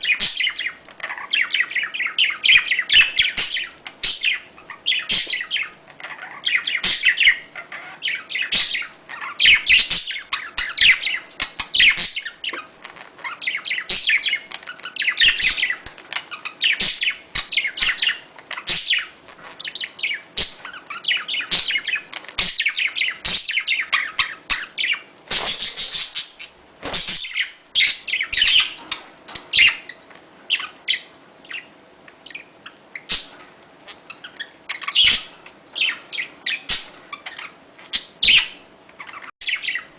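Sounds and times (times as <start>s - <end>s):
budgerigars chattering: 0.0s - 31.7s, 32.3s - 39.9s.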